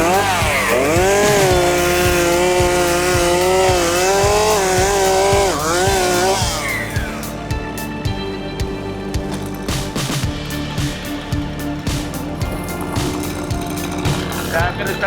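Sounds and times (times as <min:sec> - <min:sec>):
chainsaw cutting at full throttle: 0:00.0 - 0:08.0, 0:08.7 - 0:15.0.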